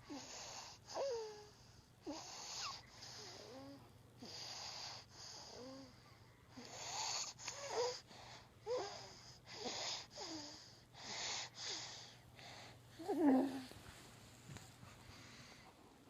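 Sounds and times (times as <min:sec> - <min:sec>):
baby snoring wheezy breaths: 0:00.1 - 0:13.7.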